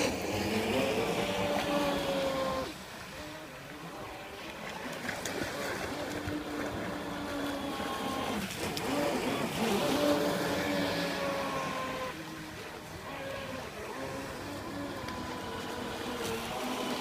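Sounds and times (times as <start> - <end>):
model boat motor whining: 0.0 - 17.0.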